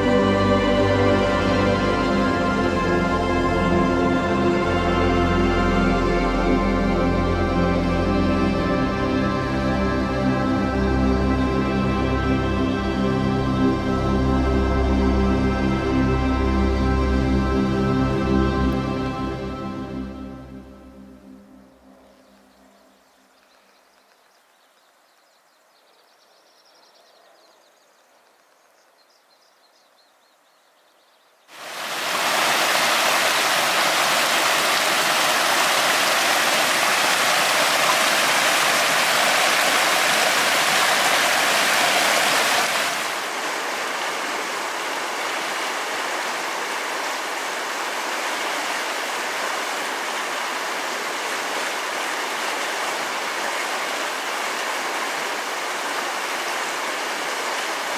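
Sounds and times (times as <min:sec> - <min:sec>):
mountain river rushing: 0:00.0 - 0:24.1, 0:31.5 - 0:57.9.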